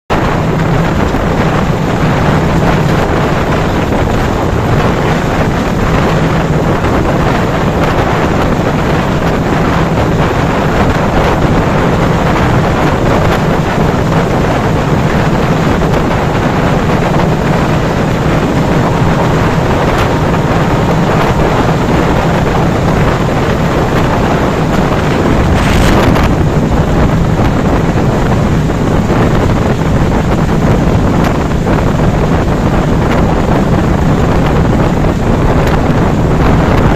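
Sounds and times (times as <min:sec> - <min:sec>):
train rolling rumble: 0:00.1 - 0:36.9
wind buffeting microphone: 0:00.1 - 0:36.9.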